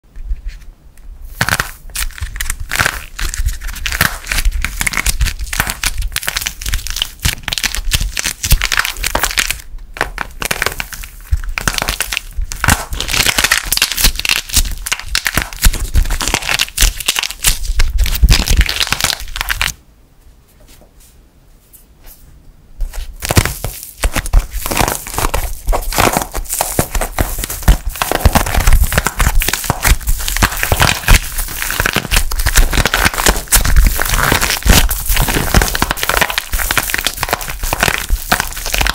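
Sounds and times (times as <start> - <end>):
dried clay cracking: 1.4 - 19.8, 22.8 - 38.9.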